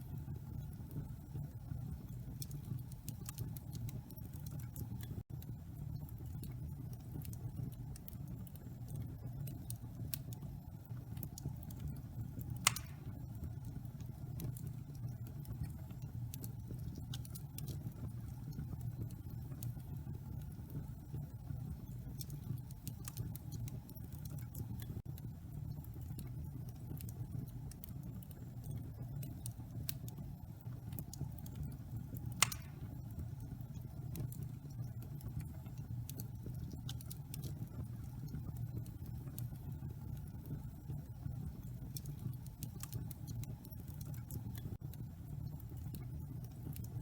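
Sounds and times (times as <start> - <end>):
fire crackling in a fireplace: 0.0 - 47.0
fire popping: 0.4 - 47.0.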